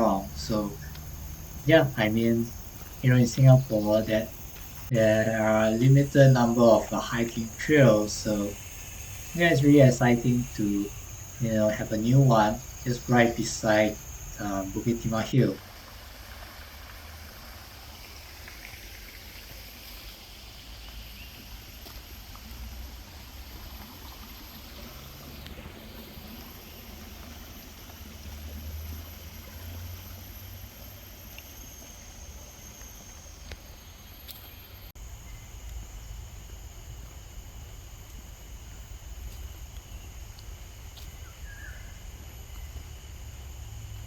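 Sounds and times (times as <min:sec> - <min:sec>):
faint high steady tones: 0:00.0 - 0:15.6, 0:17.8 - 0:44.0
even hiss: 0:00.0 - 0:42.2.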